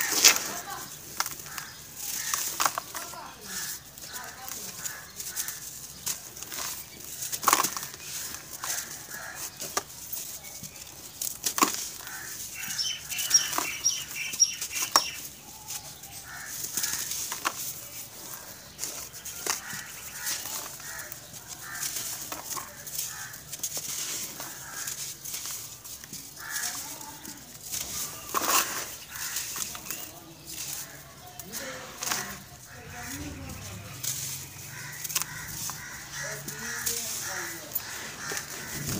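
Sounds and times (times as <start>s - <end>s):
hands crushing dry earth clods: 0.0s - 38.9s
sandy rustle of loose grit: 0.0s - 38.9s.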